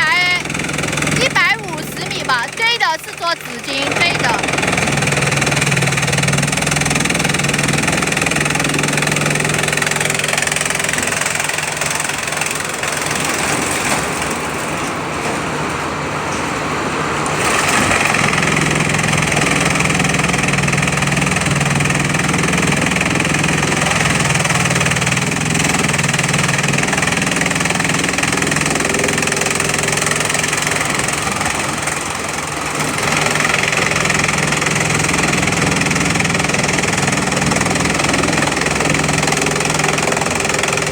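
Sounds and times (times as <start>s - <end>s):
chipping machinery and conveyor: 0.0s - 40.9s.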